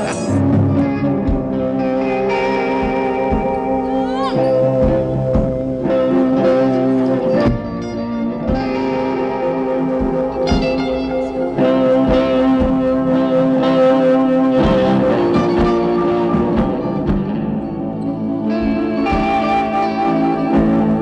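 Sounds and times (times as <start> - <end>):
electric guitar chords: 0.0 - 21.0
low thudding beat: 0.0 - 21.0.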